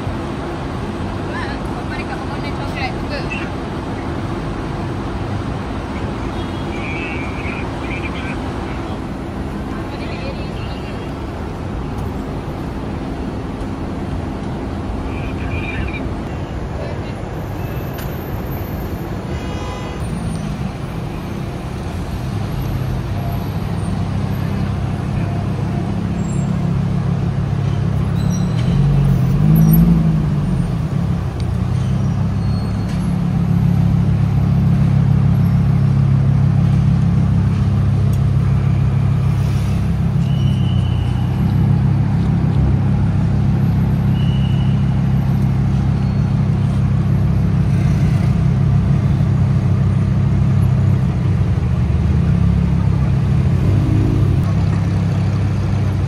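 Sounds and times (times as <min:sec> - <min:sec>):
car engines in slow traffic: 0:00.0 - 0:56.0.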